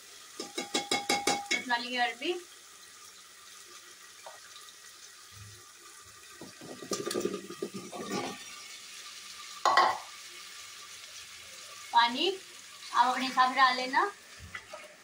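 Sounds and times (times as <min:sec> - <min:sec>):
pressure cooker hissing: 0:00.0 - 0:15.0.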